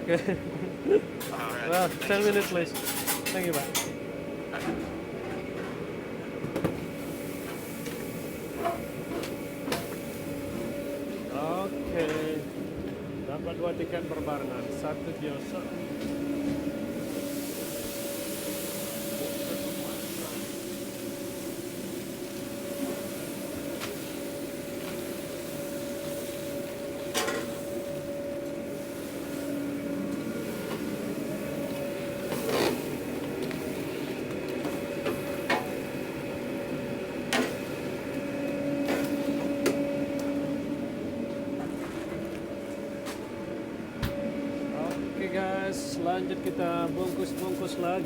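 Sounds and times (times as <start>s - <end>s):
machine hum: 3.9s - 48.0s.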